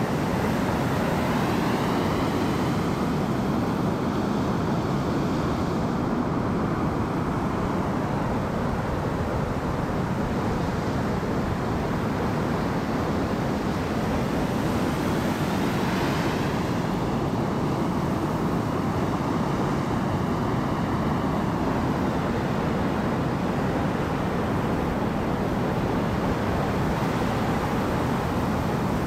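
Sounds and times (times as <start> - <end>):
ocean waves washing: 0.0 - 29.0
wind: 0.0 - 29.0.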